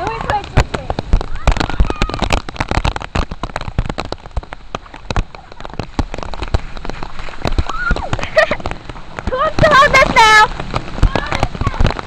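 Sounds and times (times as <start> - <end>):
heavy rain hiss: 0.0 - 12.0
raindrops popping close by: 0.0 - 12.0.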